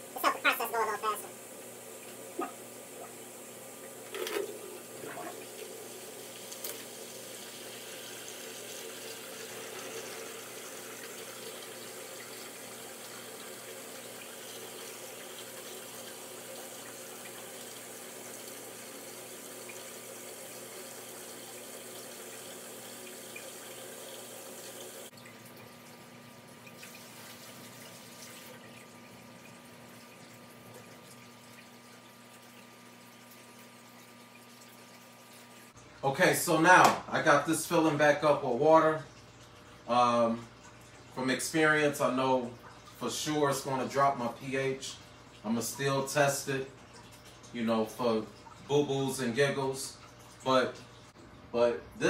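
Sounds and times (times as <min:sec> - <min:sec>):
water running through siphon hose: 0:00.1 - 0:52.0.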